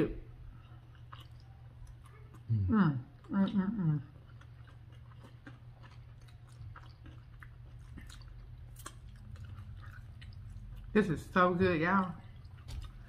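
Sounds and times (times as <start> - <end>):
low steady hum: 0.0 - 13.0
people chewing food: 0.0 - 13.0.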